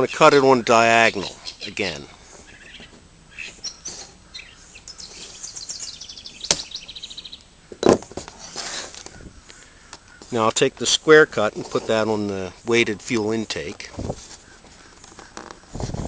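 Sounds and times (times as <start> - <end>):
small birds chirping: 0.0 - 7.8, 8.6 - 15.9.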